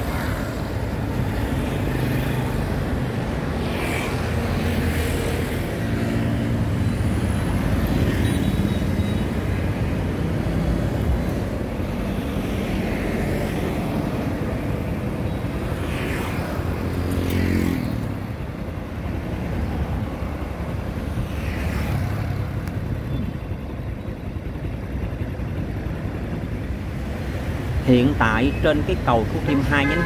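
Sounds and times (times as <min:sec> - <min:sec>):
motorbikes and cars passing: 0:00.0 - 0:30.0.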